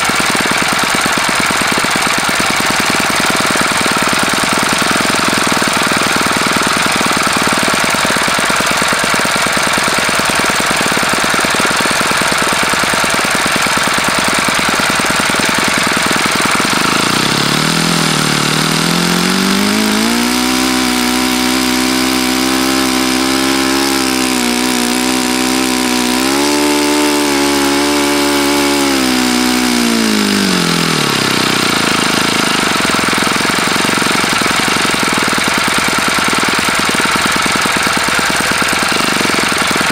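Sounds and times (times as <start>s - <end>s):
model airplane engine running: 0.0s - 39.9s.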